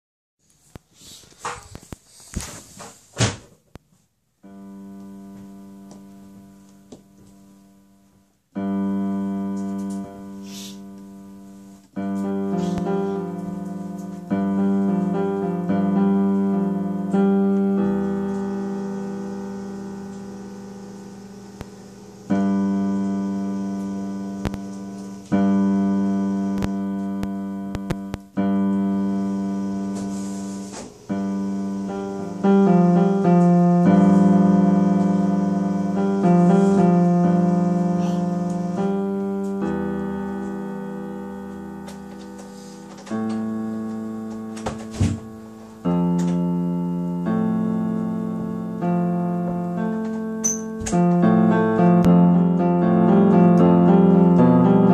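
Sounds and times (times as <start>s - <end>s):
slow solo piano chords: 4.4s - 54.9s.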